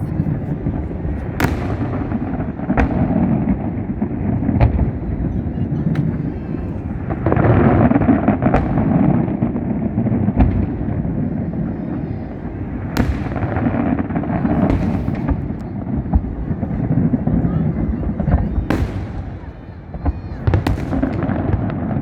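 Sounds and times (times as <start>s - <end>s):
fireworks booming: 0.0s - 22.0s
fireworks crackle: 0.0s - 22.0s
fireworks sharp cracks: 0.0s - 22.0s.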